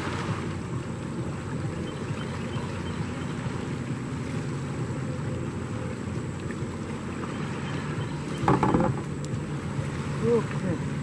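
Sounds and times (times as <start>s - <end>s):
motorboat engines rumbling: 0.0s - 11.0s.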